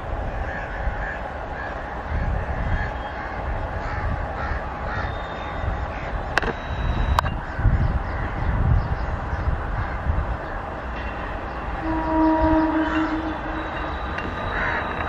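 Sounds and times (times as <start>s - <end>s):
birds calling: 0.5s - 15.0s.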